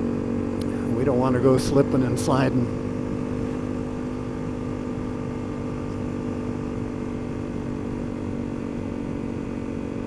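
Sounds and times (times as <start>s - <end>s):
motorcycle engine cruising: 0.0s - 10.0s
road and wind rumble: 0.0s - 10.0s.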